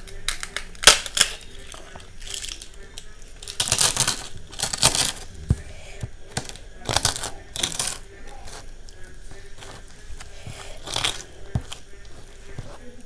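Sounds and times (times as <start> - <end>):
crisp wafer crackling: 0.0 - 13.0.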